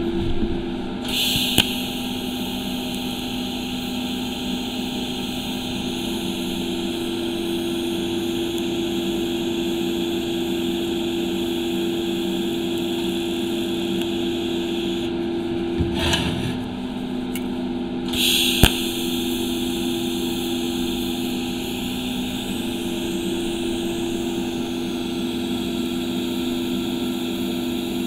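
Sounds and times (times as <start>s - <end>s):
welding arc hiss and buzz: 0.8s - 28.0s.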